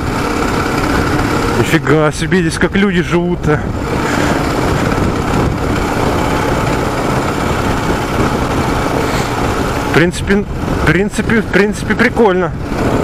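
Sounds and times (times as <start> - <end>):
motorcycle engine running: 0.0 - 13.0
wind rush over microphone: 0.0 - 13.0.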